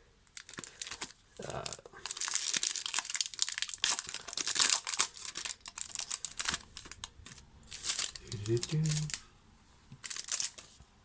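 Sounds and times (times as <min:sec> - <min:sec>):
card pack wrapper crinkling: 0:00.3 - 0:09.2, 0:10.0 - 0:10.7.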